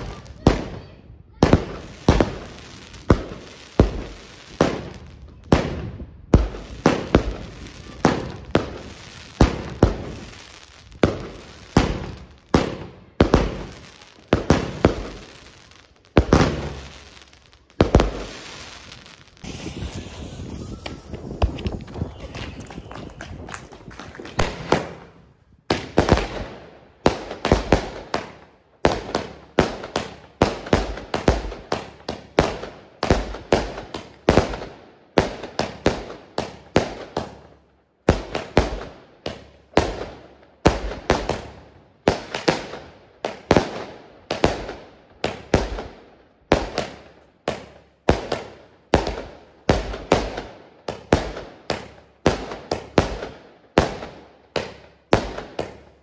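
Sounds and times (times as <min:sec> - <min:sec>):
firework bangs: 0:00.0 - 0:37.5, 0:38.1 - 0:56.0.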